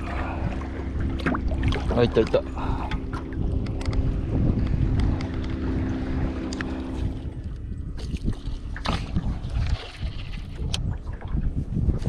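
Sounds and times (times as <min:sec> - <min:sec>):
steady low hum: 0:00.0 - 0:12.0
wind rumbling on microphone: 0:00.0 - 0:12.0.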